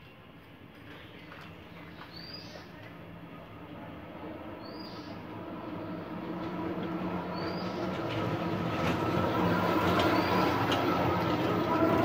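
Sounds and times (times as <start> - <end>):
machine-like rumble with held tones: 0.8 - 12.0.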